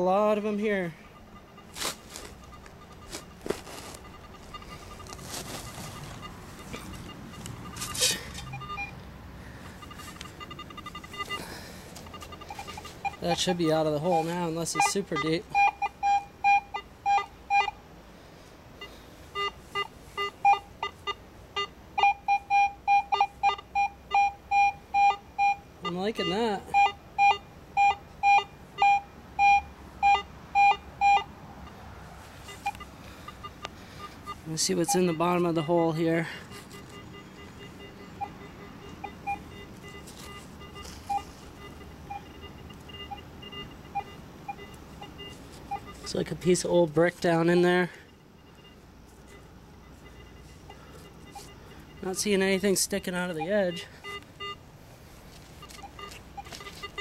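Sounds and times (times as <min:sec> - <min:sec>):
metal detector high beeps: 0:00.0 - 0:09.0, 0:09.6 - 0:17.8, 0:18.8 - 0:31.8, 0:32.4 - 0:54.6, 0:55.5 - 0:57.0
metal detector low beeps: 0:00.0 - 0:17.8, 0:18.8 - 0:31.8, 0:32.4 - 0:54.7, 0:55.3 - 0:57.0.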